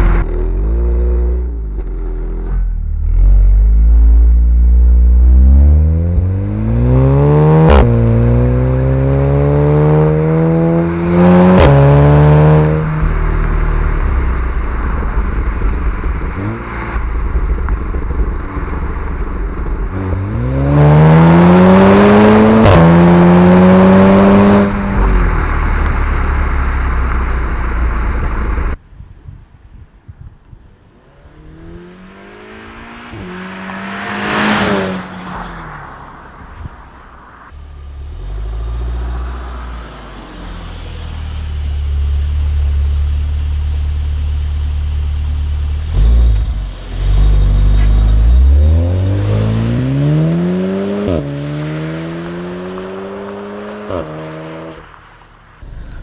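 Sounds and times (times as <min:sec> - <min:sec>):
car engine accelerating: 0:00.0 - 0:28.8, 0:31.0 - 0:56.0.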